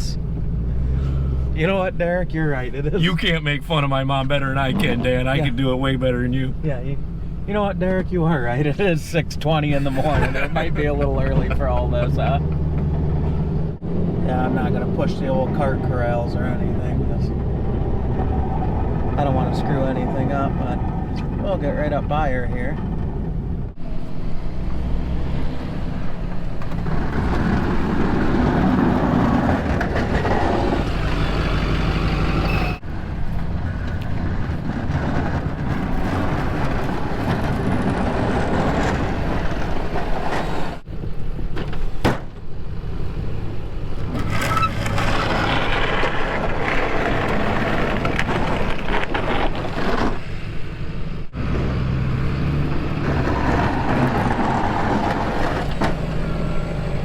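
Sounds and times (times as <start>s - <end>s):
dense plowing noise: 0.0s - 57.0s
truck engine under load: 0.0s - 57.0s.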